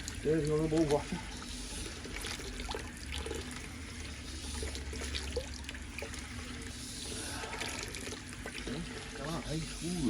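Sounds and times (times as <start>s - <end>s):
water running and draining: 0.0s - 10.0s.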